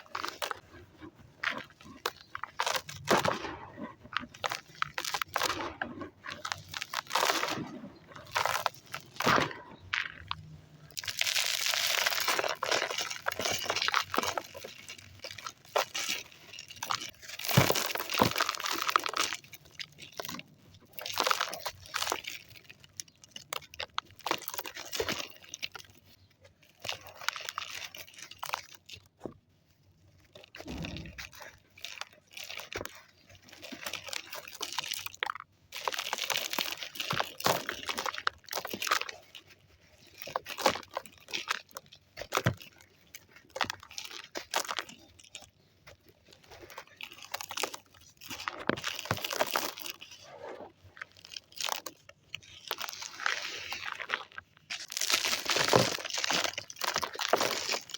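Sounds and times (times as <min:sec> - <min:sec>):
dry sand crumbling: 0:00.0 - 0:29.3, 0:30.0 - 0:57.9.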